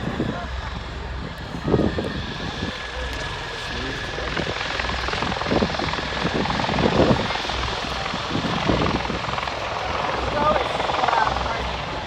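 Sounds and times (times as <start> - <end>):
aircraft rotors and engines droning: 0.0 - 12.0.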